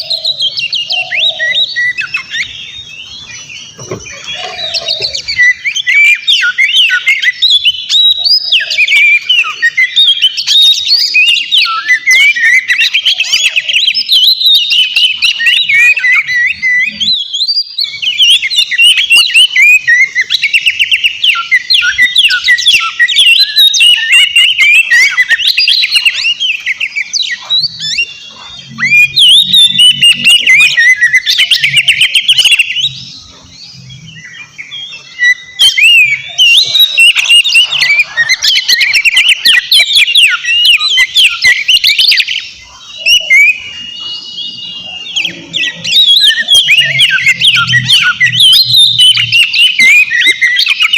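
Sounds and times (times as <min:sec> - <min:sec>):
bird singing whistles and trills: 0:00.0 - 0:50.9.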